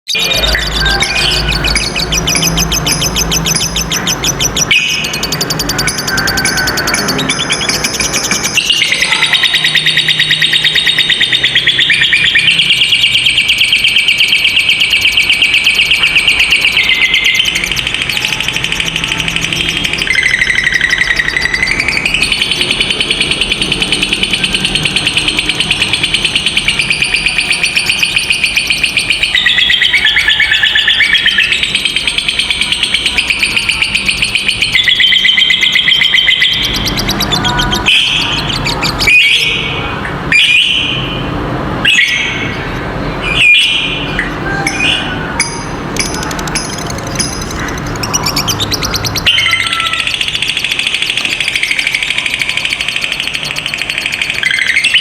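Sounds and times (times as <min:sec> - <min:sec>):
lovebird trilling: 0:00.1 - 0:41.1, 0:41.9 - 0:55.0.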